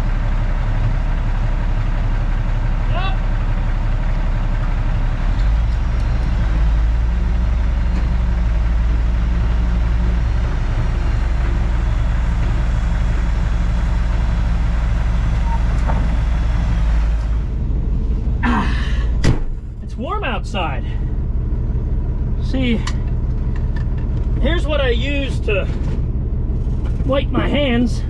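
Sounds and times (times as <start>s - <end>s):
diesel truck engine humming: 0.0s - 28.0s.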